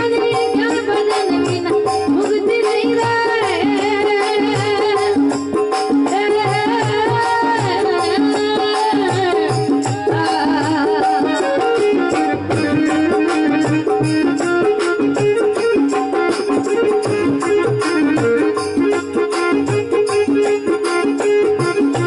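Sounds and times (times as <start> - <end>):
hand drum beat: 0.0 - 22.0
rattling percussion: 0.0 - 22.0
wavering folk melody: 0.2 - 22.0.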